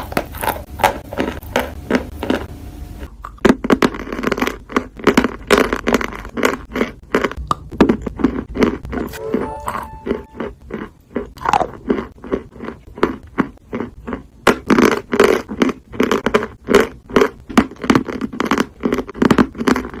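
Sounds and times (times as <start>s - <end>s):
mouth chewing and crunching: 0.0s - 9.2s, 9.9s - 20.0s.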